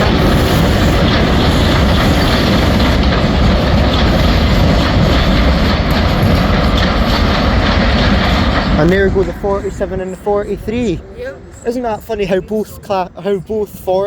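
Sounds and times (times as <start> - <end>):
diesel locomotive engines: 0.0 - 14.0.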